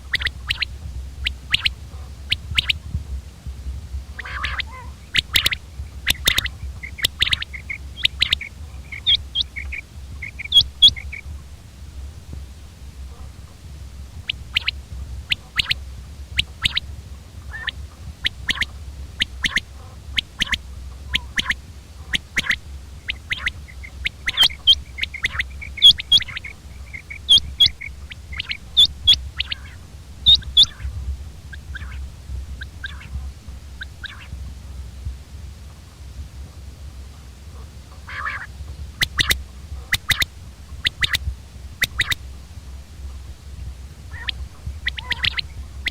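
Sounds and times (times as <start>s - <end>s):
quail calling: 0.0s - 3.0s, 4.1s - 34.5s, 36.5s - 45.9s.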